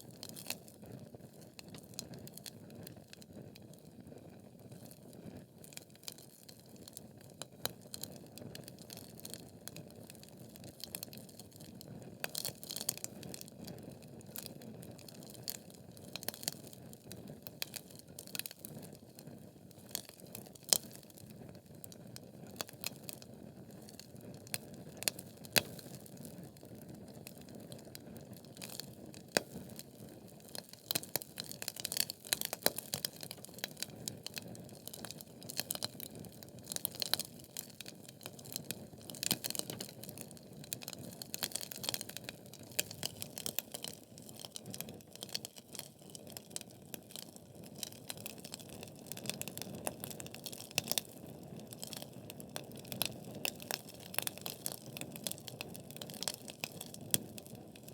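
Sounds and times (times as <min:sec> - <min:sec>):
wood fire crackling: 0:00.0 - 0:03.0, 0:04.6 - 0:57.9.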